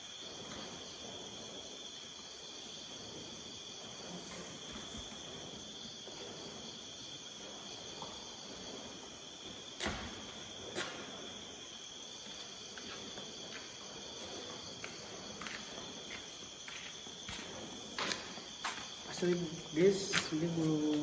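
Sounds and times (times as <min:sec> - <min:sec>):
crickets chirring: 0:00.0 - 0:21.0
faint footsteps: 0:00.0 - 0:21.0.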